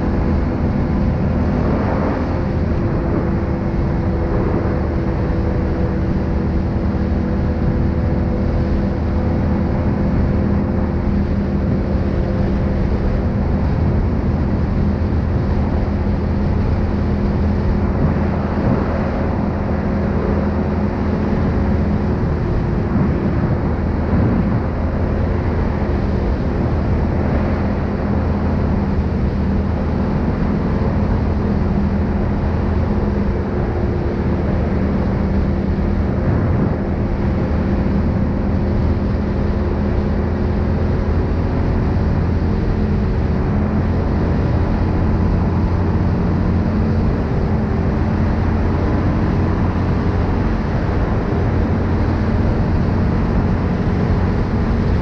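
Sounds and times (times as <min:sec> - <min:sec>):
atv engine droning: 0:00.0 - 0:55.0.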